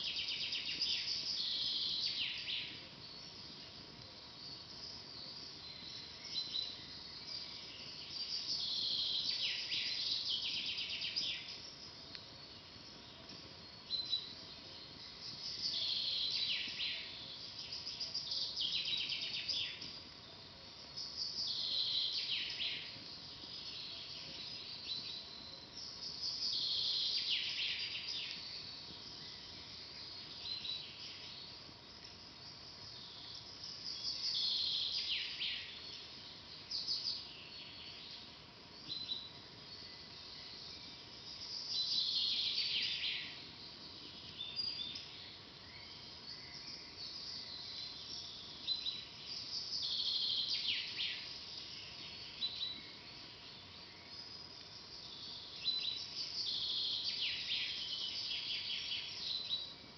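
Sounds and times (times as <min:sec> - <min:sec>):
soft steady hiss: 0:00.0 - 0:59.9.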